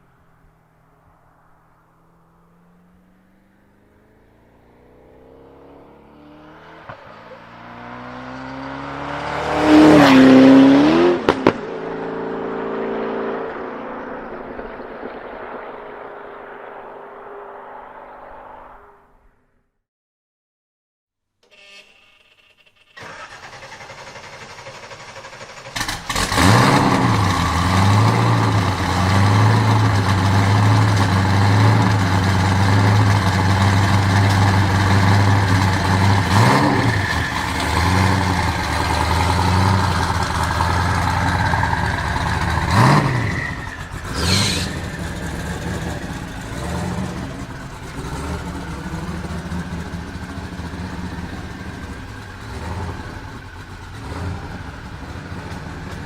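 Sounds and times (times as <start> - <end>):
car engine revving and idling: 0.0 - 18.2, 23.0 - 56.0.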